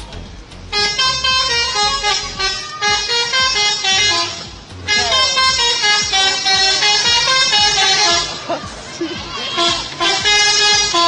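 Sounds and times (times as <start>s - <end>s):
musical air horn melody: 0.7s - 11.0s.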